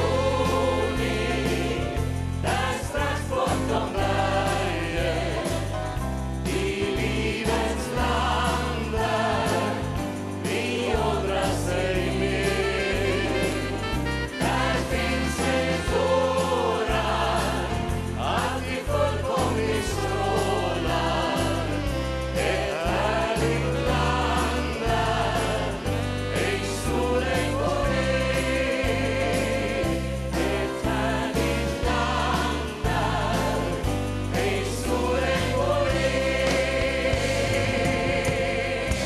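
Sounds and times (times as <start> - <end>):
accordion: 0.0 - 39.0
bass line: 0.0 - 39.0
choir and singers singing: 0.0 - 39.0
drums: 0.0 - 39.0.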